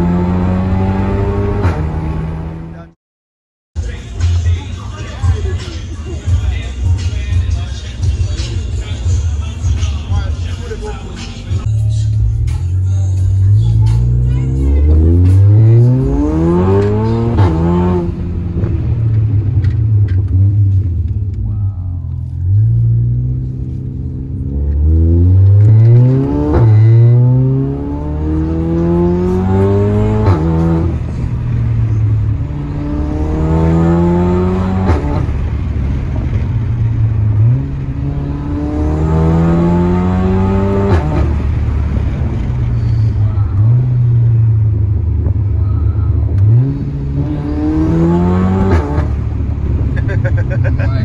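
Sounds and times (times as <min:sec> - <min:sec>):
car engine accelerating: 0:00.0 - 0:03.0, 0:03.8 - 0:51.0.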